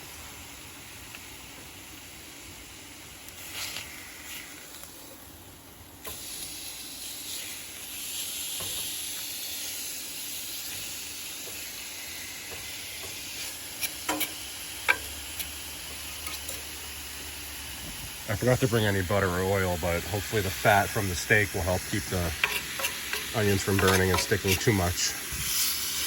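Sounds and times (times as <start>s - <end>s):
steak sizzling in a skillet: 0.0s - 26.0s.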